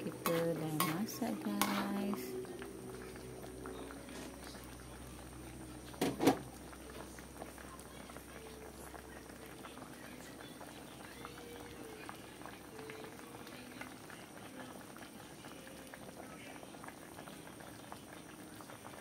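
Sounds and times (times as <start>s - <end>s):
curry bubbling in a wok: 0.0s - 19.0s.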